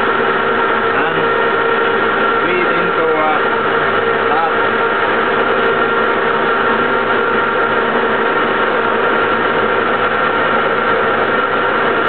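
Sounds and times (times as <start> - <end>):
lathe running with whining hum: 0.0 - 12.0.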